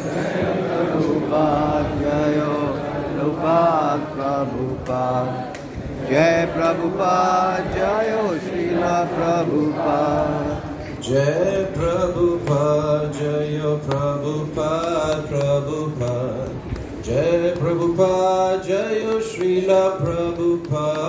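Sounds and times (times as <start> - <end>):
man singing a chant: 0.0 - 5.5, 6.1 - 21.0.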